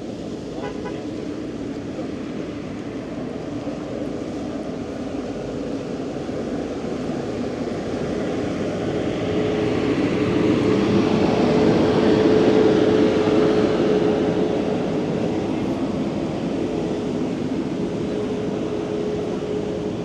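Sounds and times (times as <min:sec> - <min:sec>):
motor vehicle hum approaching: 0:00.0 - 0:20.0.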